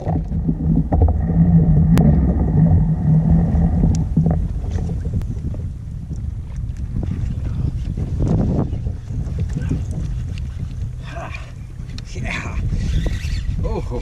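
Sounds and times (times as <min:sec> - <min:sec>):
steady low hum: 0:00.0 - 0:14.0
wind rumbling on microphone: 0:00.0 - 0:14.0.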